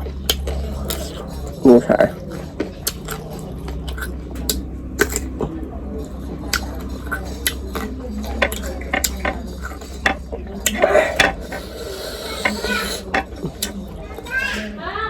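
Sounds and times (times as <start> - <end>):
cutlery and dishes clinking: 0.0 - 14.7
steady low hum: 0.0 - 14.8.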